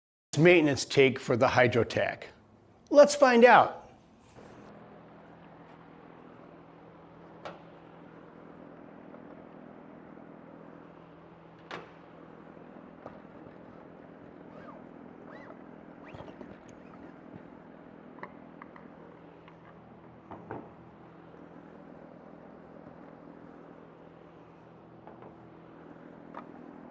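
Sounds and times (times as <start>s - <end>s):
steady low hum: 0.4s - 26.9s.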